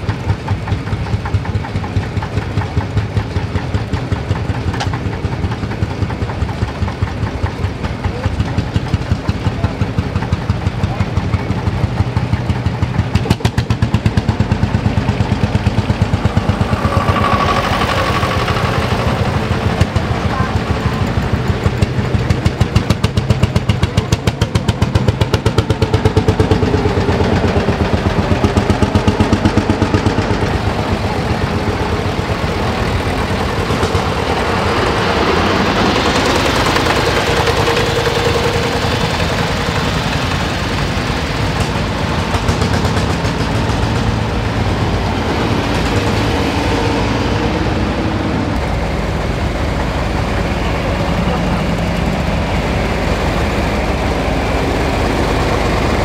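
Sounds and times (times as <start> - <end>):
single-cylinder engine pulsing beat: 0.0 - 56.0
tractor engines running: 0.0 - 56.0.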